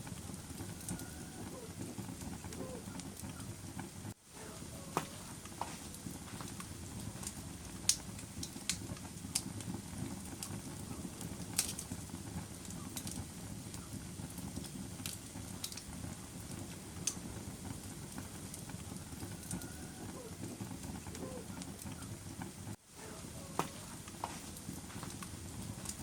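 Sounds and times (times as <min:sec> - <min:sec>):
fire flames rumbling: 0:00.0 - 0:26.0
wood fire crackling and popping: 0:00.0 - 0:26.0.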